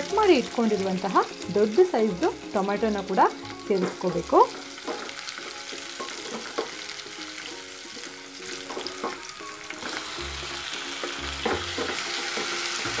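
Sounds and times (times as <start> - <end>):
soft melody: 0.0 - 13.0
vegetables sizzling in oil: 0.0 - 13.0.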